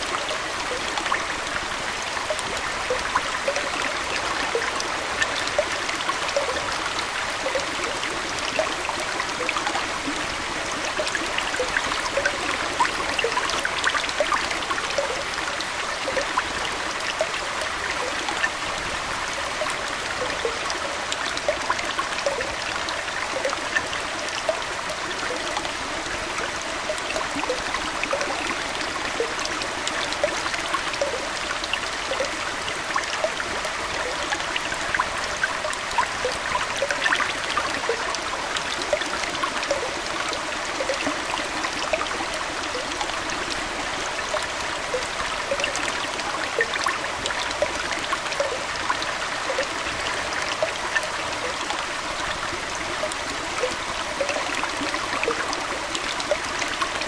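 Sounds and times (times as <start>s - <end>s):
aquarium water trickling: 0.0s - 57.0s.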